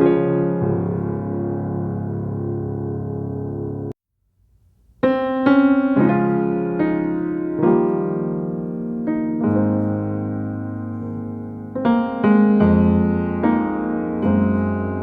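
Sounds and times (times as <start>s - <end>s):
piano music: 0.0s - 4.0s, 5.0s - 15.0s.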